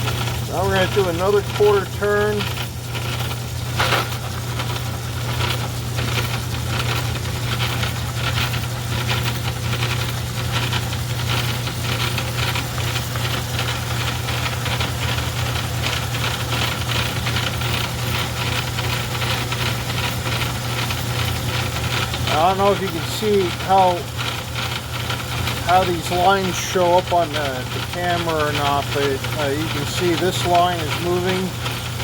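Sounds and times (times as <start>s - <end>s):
metal lathe running: 0.0s - 32.0s.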